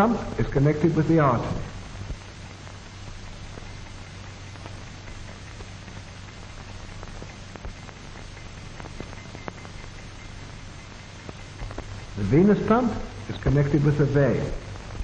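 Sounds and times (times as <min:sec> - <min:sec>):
film soundtrack hiss: 0:00.0 - 0:15.0
low hum: 0:00.0 - 0:15.0.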